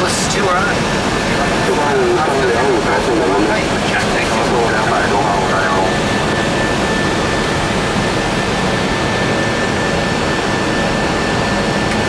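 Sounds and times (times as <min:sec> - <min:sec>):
airflow and jet engine rumble: 0:00.0 - 0:12.0.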